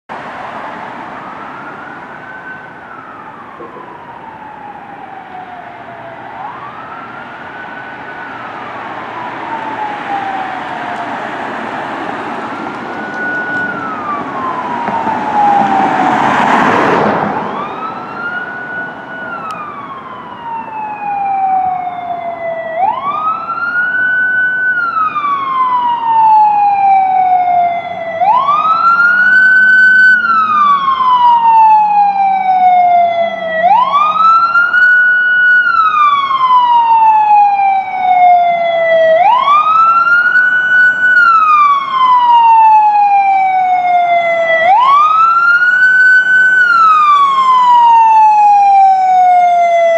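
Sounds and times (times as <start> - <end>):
fire truck siren wailing: 0.1 - 49.9.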